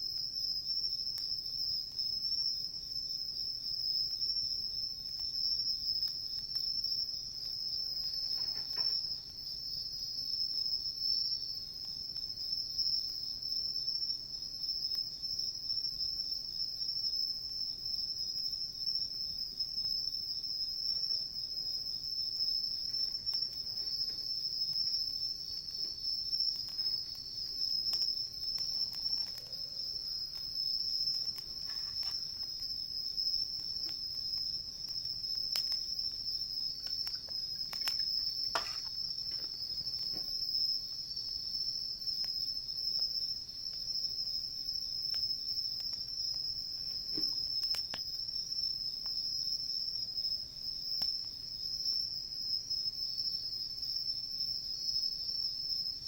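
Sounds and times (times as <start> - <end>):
crickets chirring: 0.0 - 56.0
campfire cracks and pops: 0.1 - 52.1.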